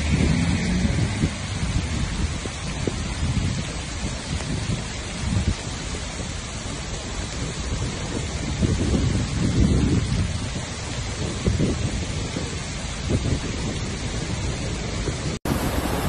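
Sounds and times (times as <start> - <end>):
heavy rain: 0.0 - 16.0
wind gusts on microphone: 0.0 - 16.0.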